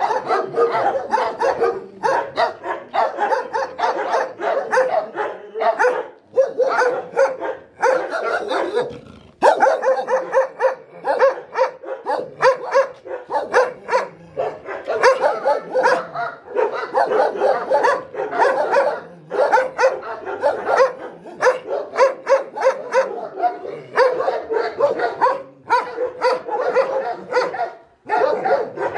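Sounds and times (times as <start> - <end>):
dogs barking: 0.0 - 28.9.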